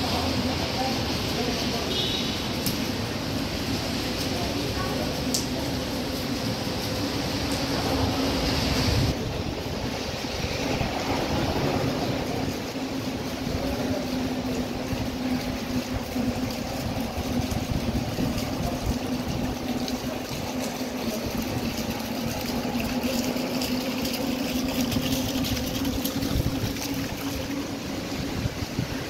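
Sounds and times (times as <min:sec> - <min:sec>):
rain hissing on flooded street: 0:00.0 - 0:29.0.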